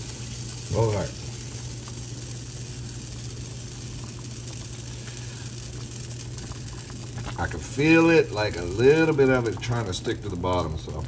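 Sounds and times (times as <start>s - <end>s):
soup simmering and sizzling: 0.0s - 11.0s.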